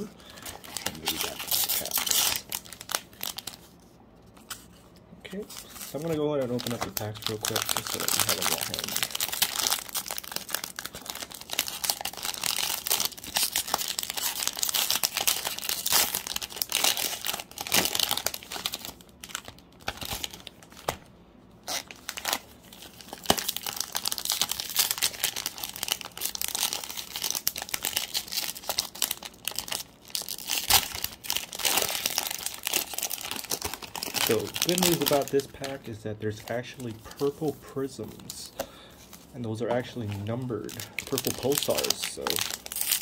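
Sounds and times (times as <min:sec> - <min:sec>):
plastic wrappers crinkling and tearing: 0:00.0 - 0:21.0, 0:21.6 - 0:43.0.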